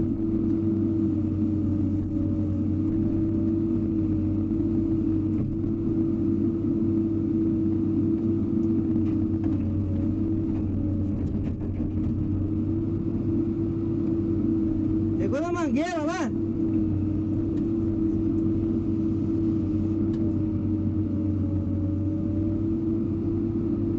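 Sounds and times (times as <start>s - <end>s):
excavator engine running: 0.0s - 23.9s.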